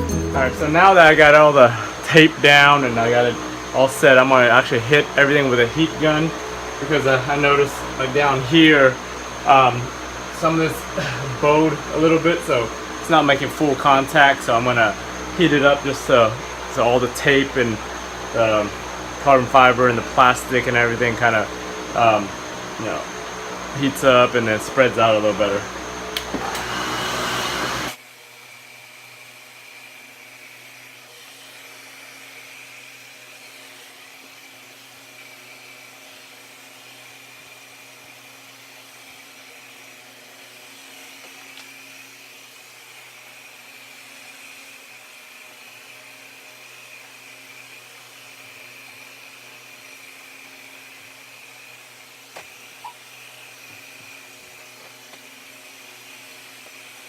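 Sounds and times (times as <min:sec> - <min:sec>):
heat gun fan whining: 0:00.3 - 0:57.0.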